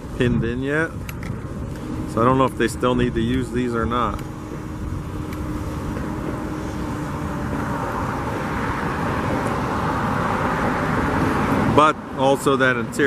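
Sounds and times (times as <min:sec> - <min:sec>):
vehicle approaching: 0:00.0 - 0:13.0.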